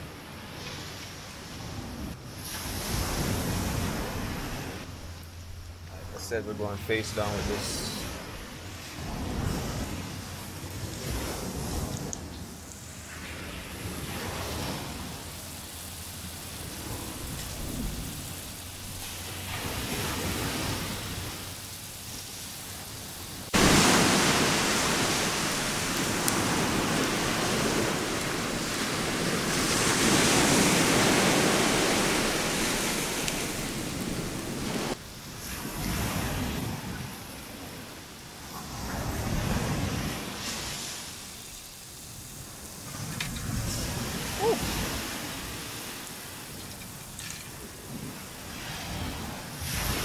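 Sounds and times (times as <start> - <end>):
ocean surf rushing: 0.0 - 50.0.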